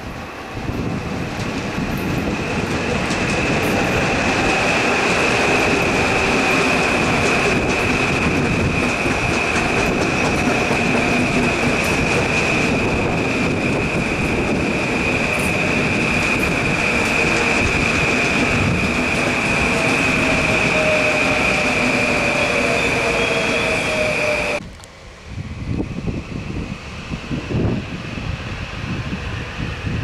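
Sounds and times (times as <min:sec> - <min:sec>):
electric train rumbling past: 0:00.0 - 0:30.0.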